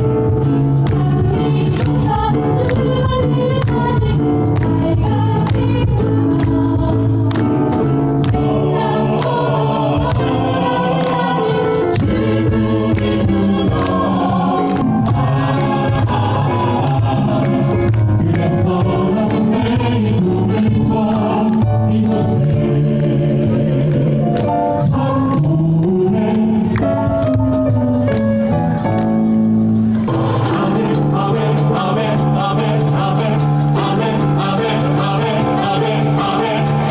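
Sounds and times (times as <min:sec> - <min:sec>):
choir singing: 0:00.5 - 0:26.8, 0:30.1 - 0:36.9.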